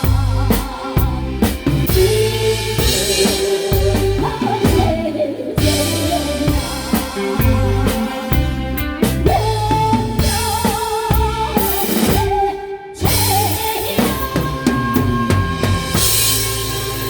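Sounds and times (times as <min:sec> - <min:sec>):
drum kit beat: 0:00.0 - 0:17.0
live band playing: 0:00.0 - 0:17.0
person singing: 0:00.0 - 0:17.0.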